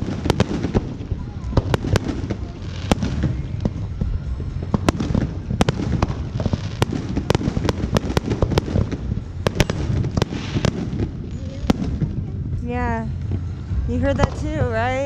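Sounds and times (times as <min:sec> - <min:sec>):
fireworks booming and cracking: 0:00.0 - 0:15.0.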